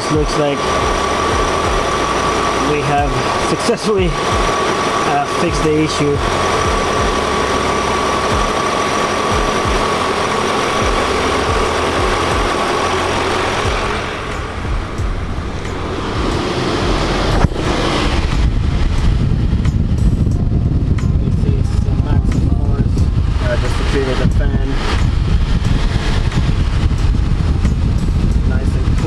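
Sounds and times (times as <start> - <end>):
car engine idling: 0.0 - 29.0
electric fan whooshing with whine: 0.0 - 29.0.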